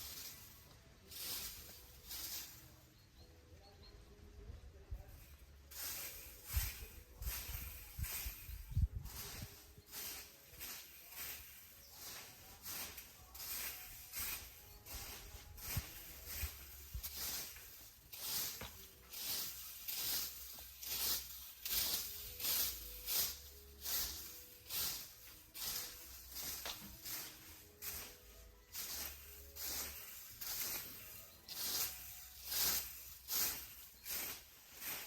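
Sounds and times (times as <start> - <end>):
rasping scrape strokes: 5.7 - 35.0.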